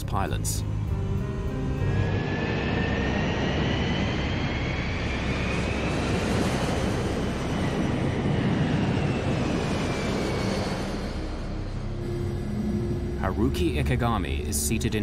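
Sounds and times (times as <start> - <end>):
jet engines roaring: 0.2 - 15.0.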